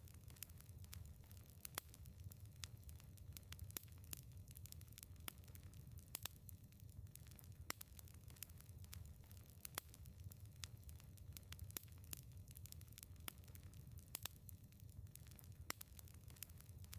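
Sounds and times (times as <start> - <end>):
firewood crackling and popping: 0.0 - 16.9.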